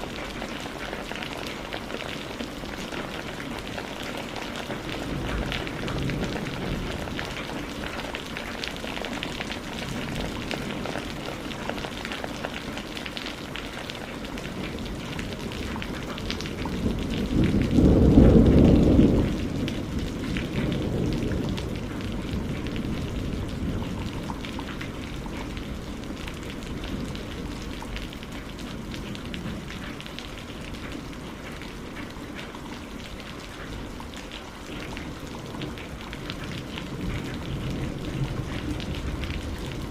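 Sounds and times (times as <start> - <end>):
low rumble of thunder: 0.0 - 12.1, 14.4 - 39.9
steady rain falling: 0.0 - 39.9.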